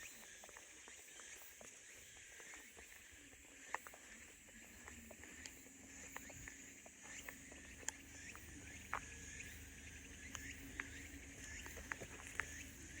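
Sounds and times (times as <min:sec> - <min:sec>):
high-pitched insect chorus: 0:00.0 - 0:13.0
short insect chirps and ticks: 0:00.0 - 0:13.0.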